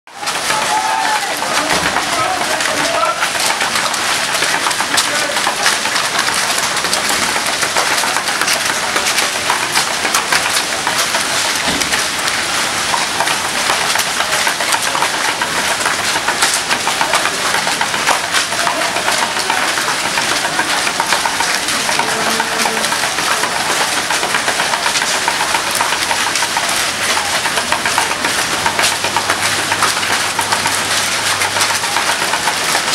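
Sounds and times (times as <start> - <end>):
plastic cups crackling underfoot: 0.1 - 32.9
runners' footsteps on wet pavement: 0.1 - 32.9.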